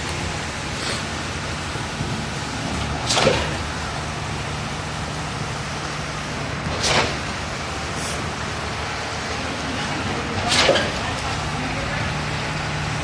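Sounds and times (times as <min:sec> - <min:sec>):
concrete pump engine hum: 0:00.0 - 0:13.0.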